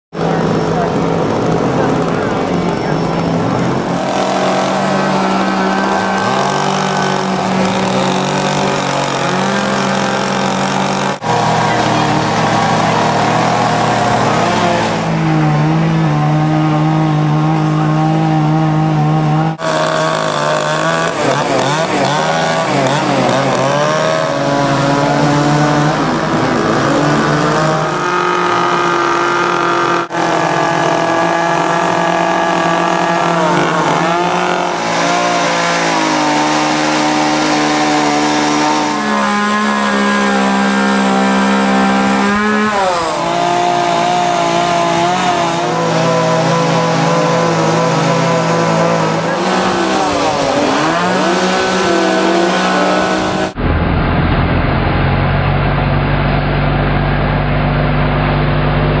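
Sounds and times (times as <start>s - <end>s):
chainsaws cutting wood: 0.2s - 53.6s.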